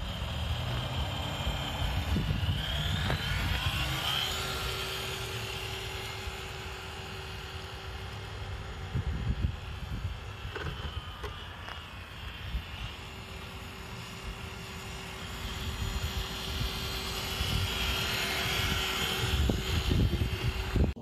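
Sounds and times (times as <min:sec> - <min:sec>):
outdoor hum: 0:00.0 - 0:21.0
small electric motors whining: 0:00.0 - 0:21.0.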